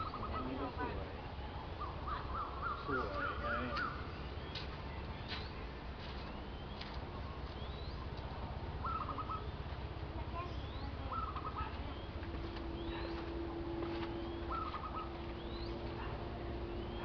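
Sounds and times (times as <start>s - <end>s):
faint rising bird chirps: 0.0s - 8.2s, 8.8s - 9.8s, 10.4s - 17.0s
low steady background noise: 0.0s - 17.0s.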